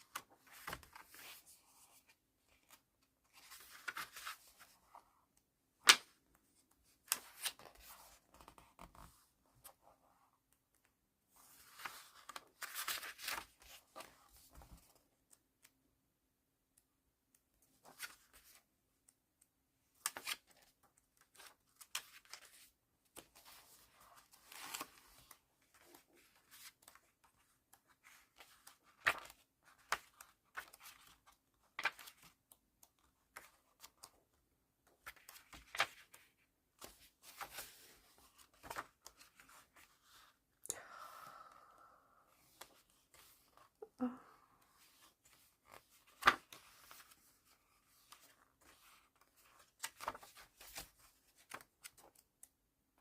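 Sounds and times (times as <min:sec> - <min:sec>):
book pages being turned: 0:00.0 - 0:15.8, 0:17.6 - 0:19.2, 0:19.9 - 0:40.4, 0:42.3 - 0:43.7, 0:44.7 - 0:52.5.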